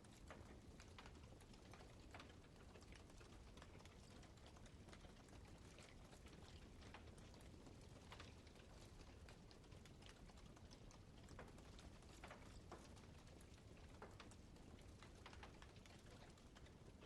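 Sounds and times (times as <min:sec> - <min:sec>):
wood fire crackling: 0:00.1 - 0:05.3, 0:05.9 - 0:17.0.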